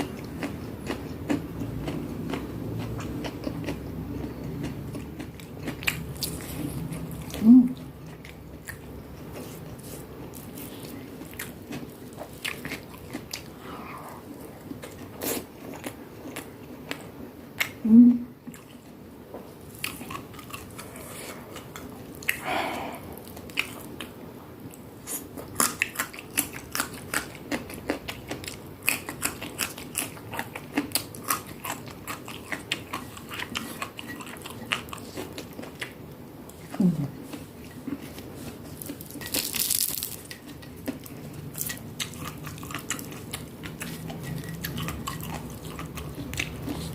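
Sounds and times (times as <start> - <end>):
person chewing crunchy food: 0.0 - 17.8, 18.4 - 46.9.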